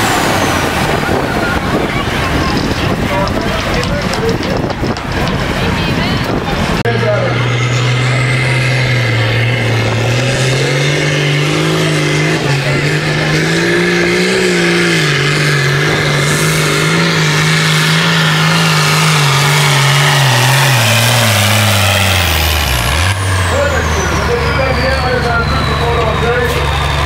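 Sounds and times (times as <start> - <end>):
tractor diesel engine at full throttle: 0.0 - 27.0.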